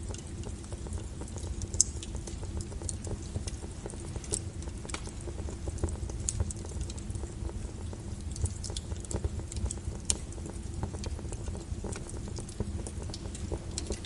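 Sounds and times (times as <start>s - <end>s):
logs crackling and popping: 0.0s - 14.0s
low rumble of fire: 0.0s - 14.0s.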